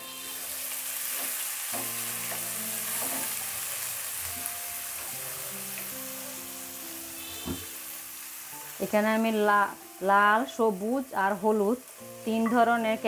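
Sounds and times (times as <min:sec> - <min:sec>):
soft background music: 0:00.0 - 0:13.0
vegetables sizzling in oil: 0:00.0 - 0:13.0.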